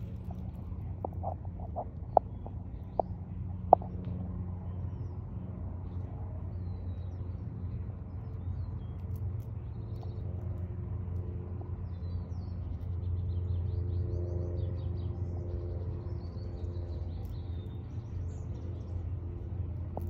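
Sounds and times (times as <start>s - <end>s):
level tonal hum: 0.0s - 20.0s
low mechanical rumble: 0.0s - 20.0s.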